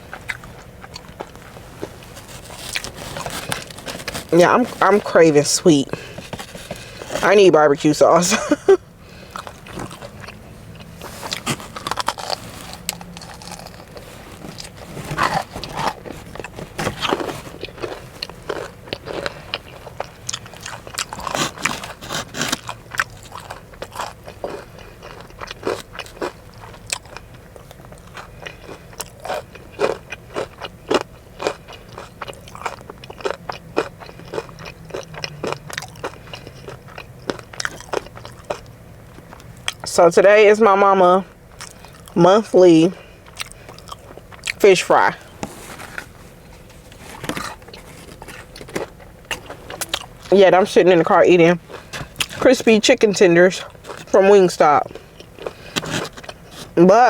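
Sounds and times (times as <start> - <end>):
chewing crispy food: 0.0 - 57.0.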